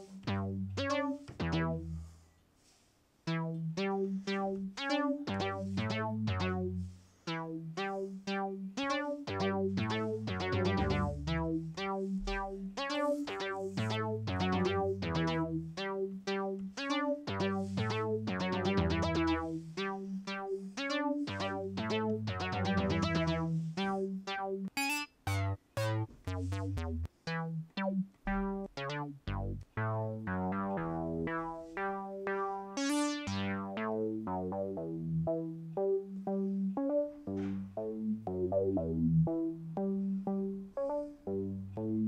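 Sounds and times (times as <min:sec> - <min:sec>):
plucky synth notes: 0:00.0 - 0:02.2, 0:03.2 - 0:42.0
repeating bass line: 0:00.0 - 0:02.2, 0:03.3 - 0:42.0.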